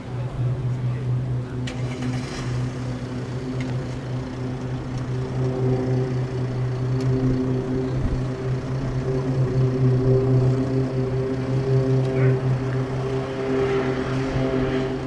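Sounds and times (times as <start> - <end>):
jet engines droning: 0.0 - 15.0.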